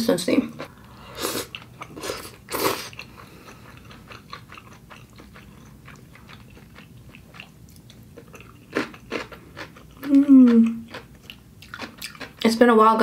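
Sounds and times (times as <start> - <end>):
chewing soft noodles: 0.6 - 12.4.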